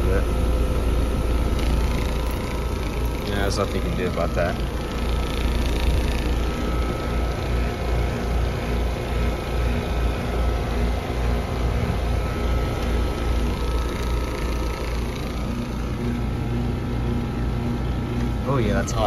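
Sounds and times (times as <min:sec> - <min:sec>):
heat pump humming: 0:00.0 - 0:19.0.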